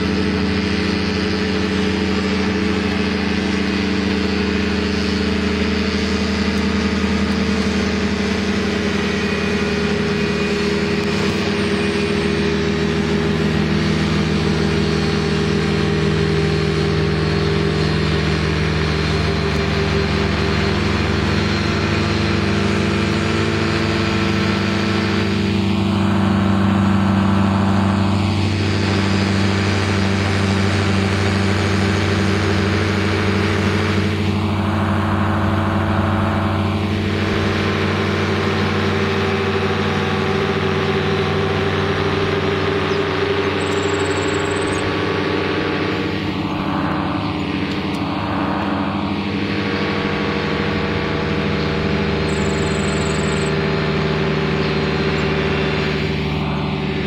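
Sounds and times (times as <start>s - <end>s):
paramotor engine droning overhead: 0.0s - 57.0s.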